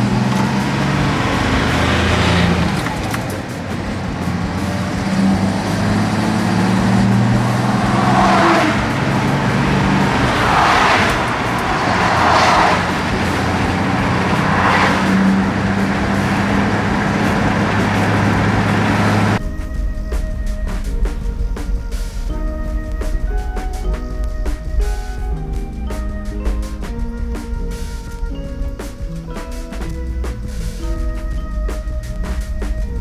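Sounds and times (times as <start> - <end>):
car engine running: 0.0 - 33.0
rushing road or wind noise: 0.0 - 33.0.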